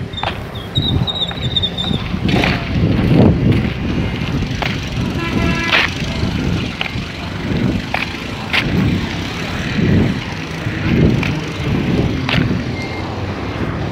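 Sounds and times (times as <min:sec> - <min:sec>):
vehicle low rumble: 0:00.0 - 0:13.9.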